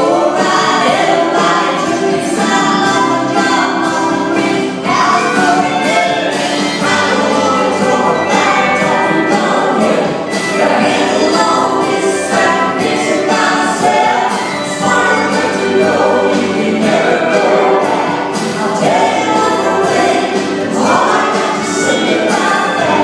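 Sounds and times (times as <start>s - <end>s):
live band playing: 0.0s - 23.0s
women singing backing vocals: 0.0s - 23.0s.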